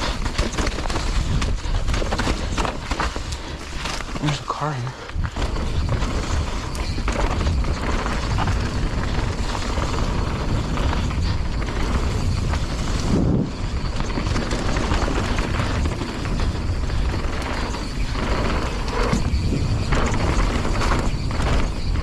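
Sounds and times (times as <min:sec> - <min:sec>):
mountain bike rattling on trail: 0:00.0 - 0:22.0
wind buffeting microphone: 0:00.0 - 0:22.0.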